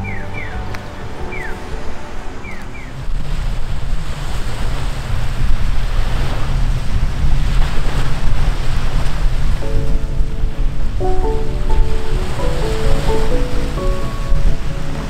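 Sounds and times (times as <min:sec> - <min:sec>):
waves washing up sandy shore: 0:00.0 - 0:15.0
wind buffeting microphone: 0:00.0 - 0:15.0.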